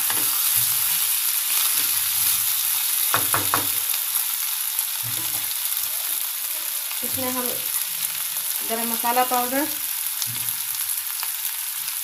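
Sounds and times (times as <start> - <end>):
pumpkin sizzling in oil: 0.0 - 12.0.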